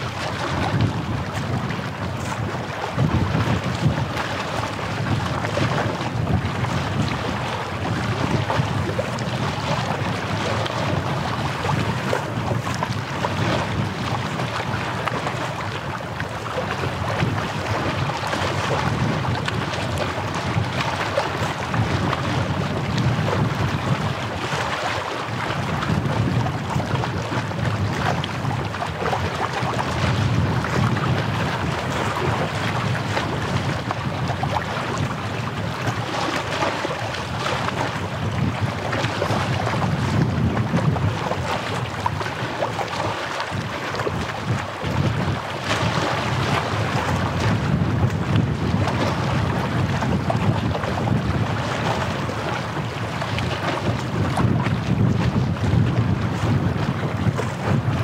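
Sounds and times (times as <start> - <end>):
small waves washing on shore: 0.0 - 58.0
wind rushing over microphone: 0.0 - 58.0.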